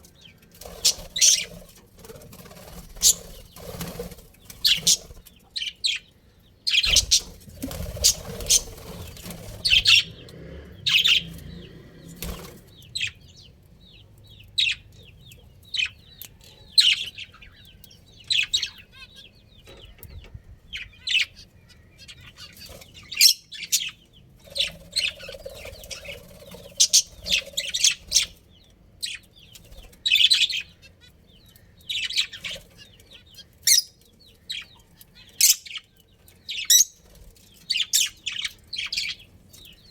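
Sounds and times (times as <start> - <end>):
budgerigars chirping: 0.0 - 1.8, 2.7 - 39.9.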